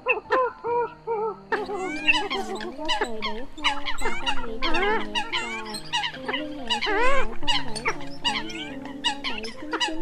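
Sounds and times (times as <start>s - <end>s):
flock of birds calling: 0.0s - 10.0s.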